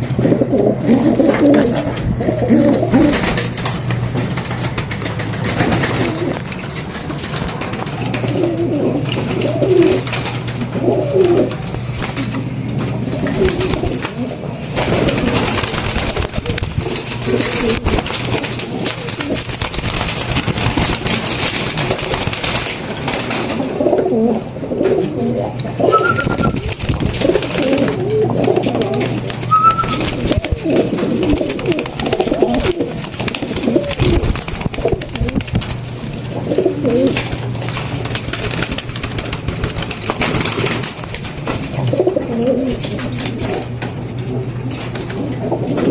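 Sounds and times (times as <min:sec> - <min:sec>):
pigeons cooing: 0:00.0 - 0:45.9
steady low hum: 0:00.0 - 0:45.9.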